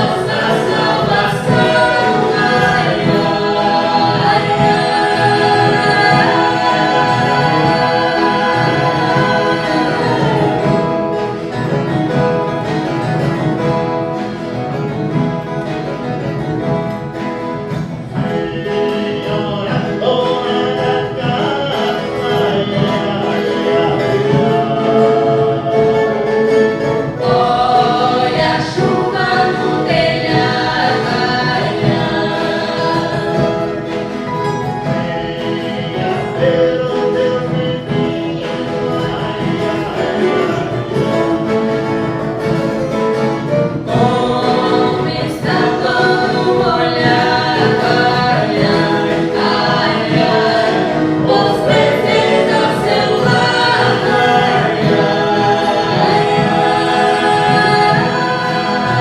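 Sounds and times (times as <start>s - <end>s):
group of voices singing: 0.0s - 59.0s
plucked guitars ensemble: 0.0s - 59.0s.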